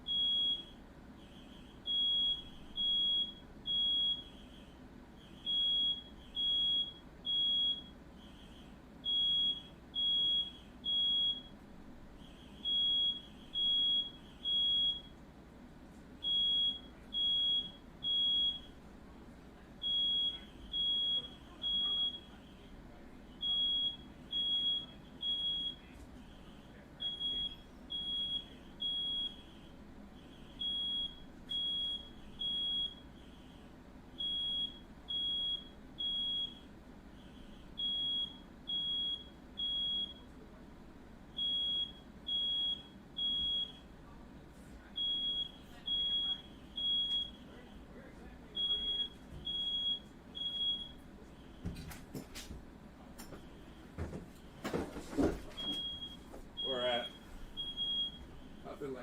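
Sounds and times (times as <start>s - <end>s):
smoke alarm beeping: 0.0s - 15.2s, 16.2s - 18.9s, 19.8s - 40.4s, 41.3s - 43.9s, 44.9s - 48.0s, 48.6s - 51.8s, 53.3s - 59.0s.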